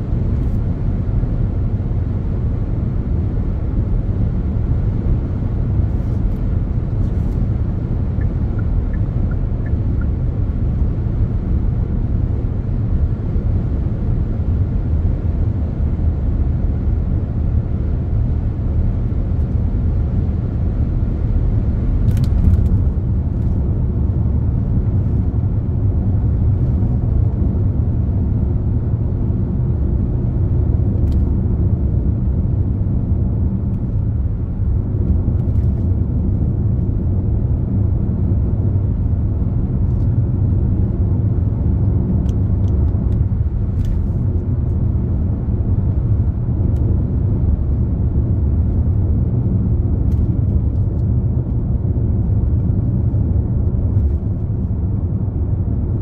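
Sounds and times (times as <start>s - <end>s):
car tyres and engine rumbling: 0.0s - 56.0s.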